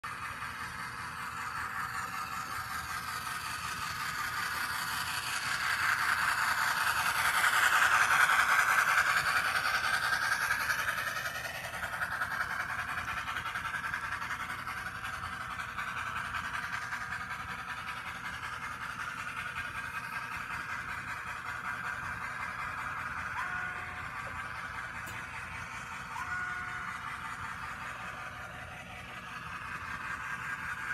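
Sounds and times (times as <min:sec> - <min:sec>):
model train whirring and clattering: 0:00.0 - 0:30.9.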